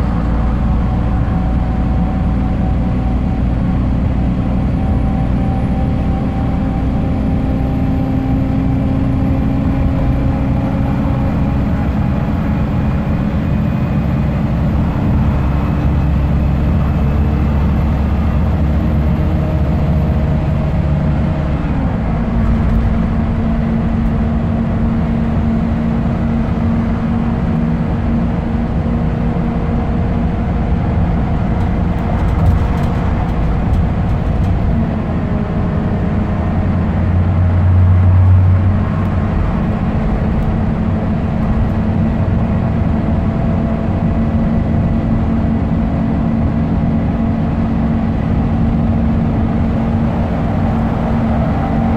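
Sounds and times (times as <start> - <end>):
bus diesel engine running: 0.0 - 51.9
tyre and road noise: 0.0 - 51.9.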